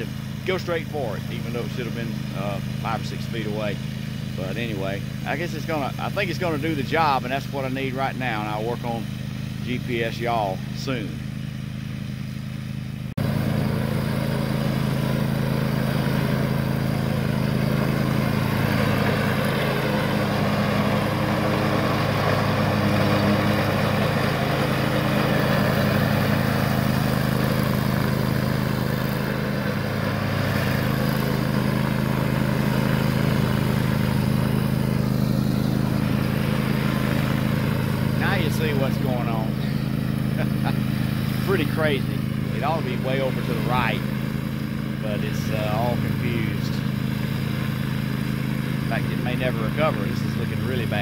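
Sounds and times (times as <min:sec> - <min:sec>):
riding mower engine running: 0:00.0 - 0:51.0.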